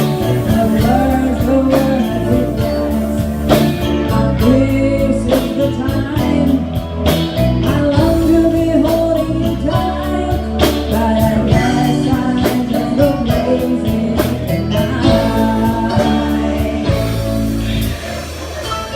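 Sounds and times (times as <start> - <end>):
bass: 0.0 - 18.9
guitar: 0.0 - 18.9
person singing: 0.0 - 18.9.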